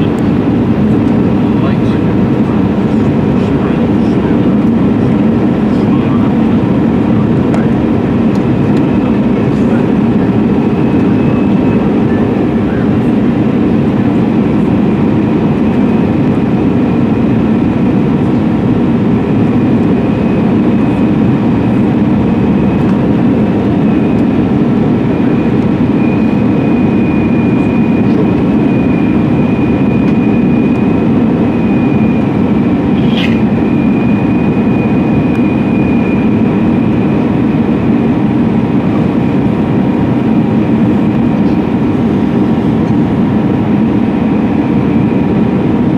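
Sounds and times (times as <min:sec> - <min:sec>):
aircraft cabin engine noise: 0:00.0 - 0:45.9
faint high whine: 0:05.0 - 0:45.9.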